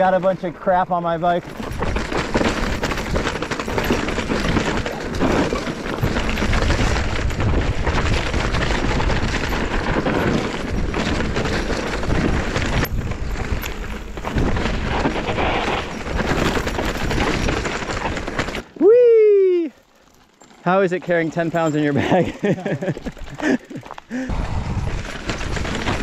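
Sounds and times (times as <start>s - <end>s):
tyres crunching over dirt and rocks: 0.0s - 18.8s, 19.6s - 26.0s
bike rattling and clattering: 0.0s - 26.0s.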